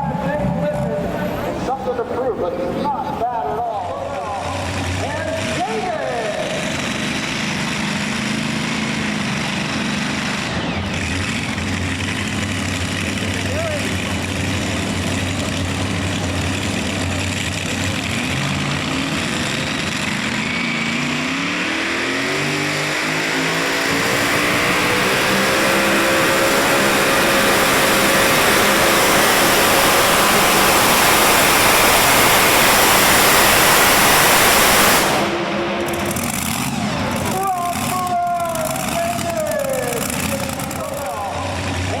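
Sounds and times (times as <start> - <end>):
diesel engine revving: 0.0 - 42.0.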